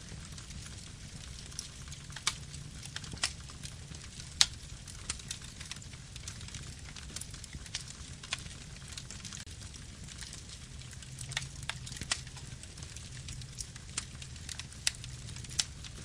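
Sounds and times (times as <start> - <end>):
campfire flame rumble: 0.0 - 16.0
wood crackling and popping: 0.0 - 16.0.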